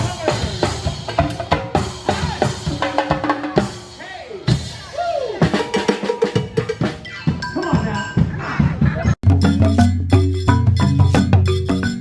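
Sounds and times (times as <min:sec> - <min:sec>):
drum and percussion music: 0:00.0 - 0:12.0.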